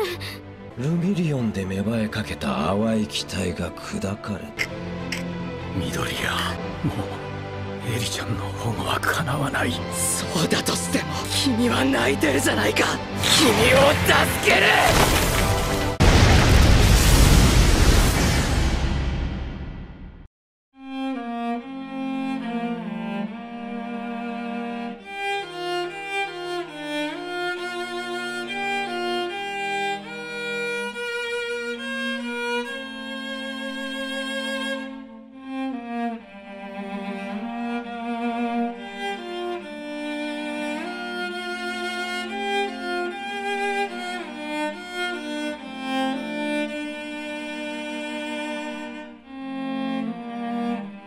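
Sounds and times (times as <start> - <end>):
violin melody: 0.0 - 15.0, 20.8 - 51.0.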